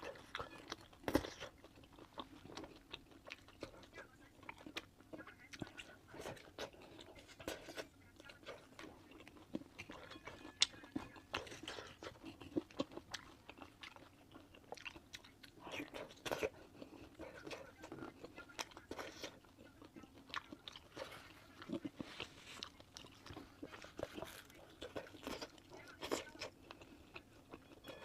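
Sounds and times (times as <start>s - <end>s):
person chewing and crunching: 0.0s - 28.0s.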